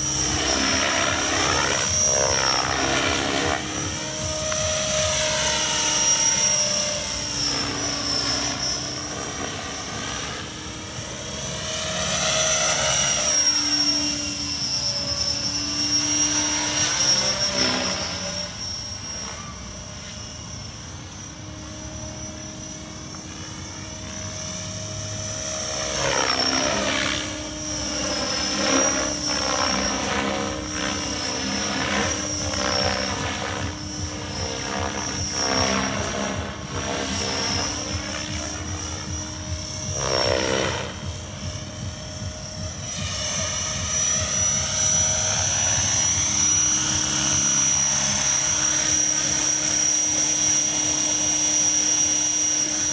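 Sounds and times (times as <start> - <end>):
model helicopter rotor whine: 0.0 - 52.9.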